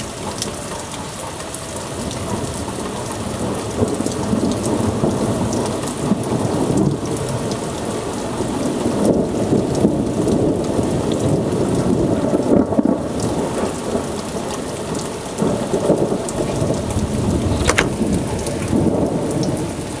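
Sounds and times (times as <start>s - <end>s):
heavy rain downpour: 0.0s - 20.0s
raindrops tapping close by: 0.0s - 20.0s
thunder rumbling: 2.0s - 20.0s.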